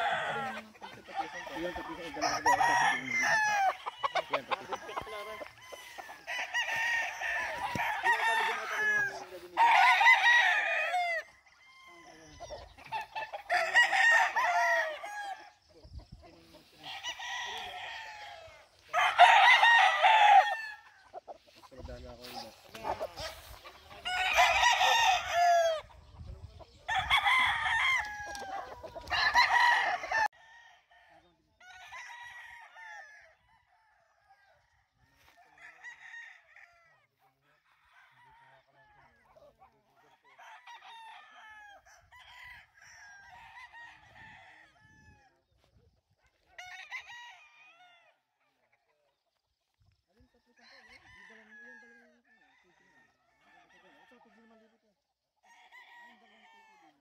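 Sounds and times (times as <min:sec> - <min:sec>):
roosters crowing: 0:00.0 - 0:45.4, 0:46.3 - 0:48.6, 0:50.3 - 0:54.7, 0:55.4 - 0:57.0.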